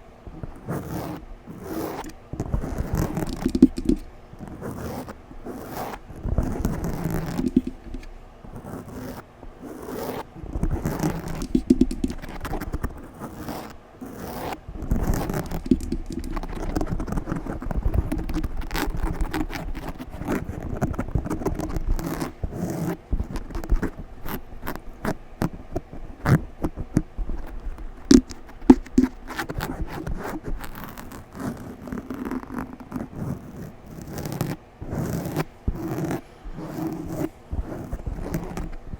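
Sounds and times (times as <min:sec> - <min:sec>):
scratching on microphone: 0:00.0 - 0:38.9.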